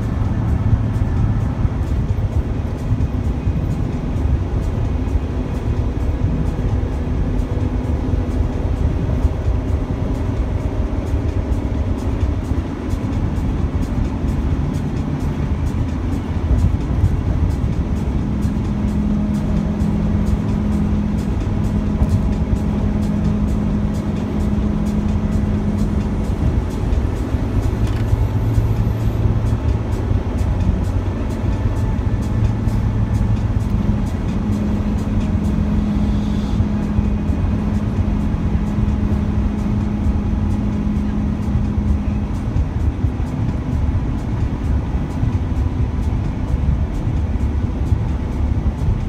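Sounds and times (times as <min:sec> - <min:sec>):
vehicle road and engine noise: 0:00.0 - 0:49.0.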